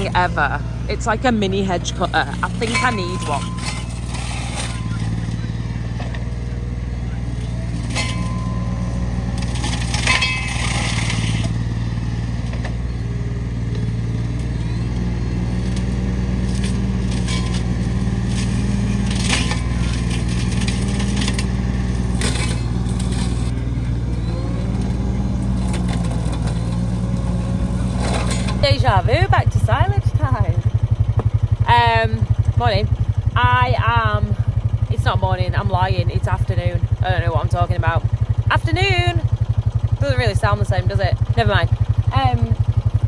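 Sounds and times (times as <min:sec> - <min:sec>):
engine running steadily: 0:00.0 - 0:43.0
knocks and rattles: 0:00.0 - 0:43.0.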